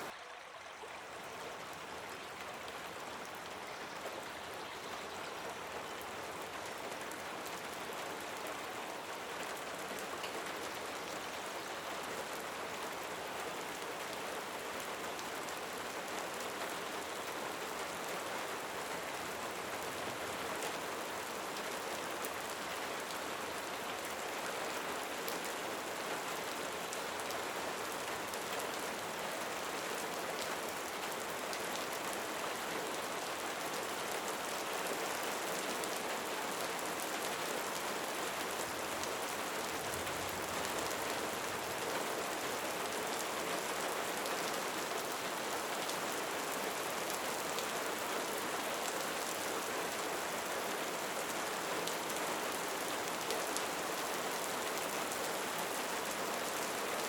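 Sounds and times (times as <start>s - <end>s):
steady rain hiss: 0.9s - 57.0s.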